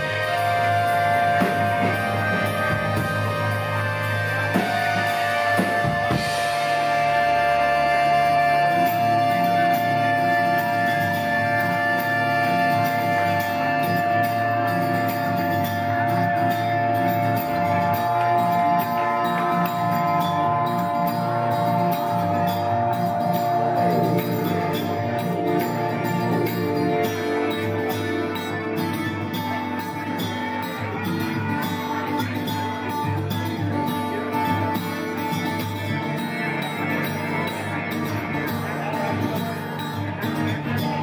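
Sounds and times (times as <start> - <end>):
gliding notes: 0.0 - 37.9
rock band playing slowly: 0.0 - 41.0.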